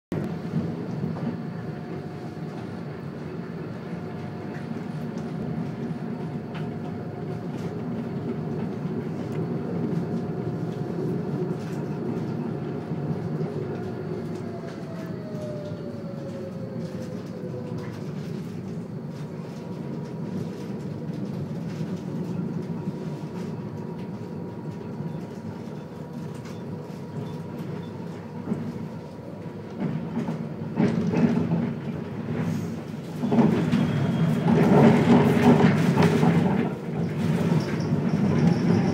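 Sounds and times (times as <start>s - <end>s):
tram running rumble: 0.1s - 38.9s
tram clatter: 0.2s - 38.9s.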